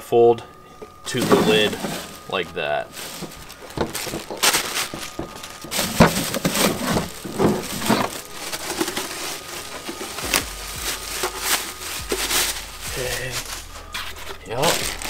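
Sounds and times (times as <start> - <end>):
plastic packaging crinkling: 1.0 - 15.0.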